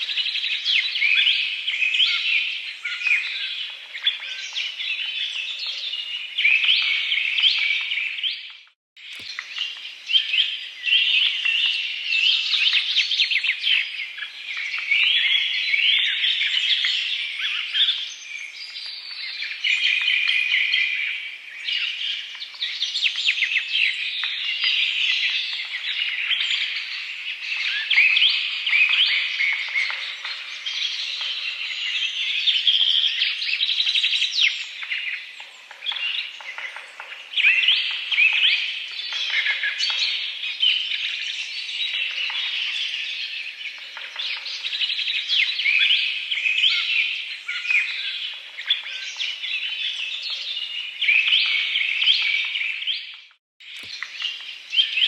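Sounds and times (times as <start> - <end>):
chorus of birds chirping: 0.0 - 55.0.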